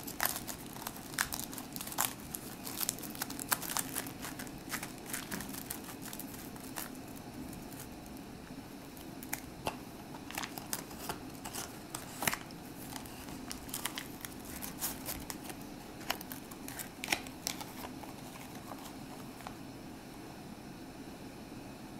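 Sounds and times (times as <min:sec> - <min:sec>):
foil wrapper crackling: 0:00.0 - 0:08.2, 0:08.9 - 0:19.6
paper box rustling: 0:00.0 - 0:08.2, 0:09.0 - 0:19.6.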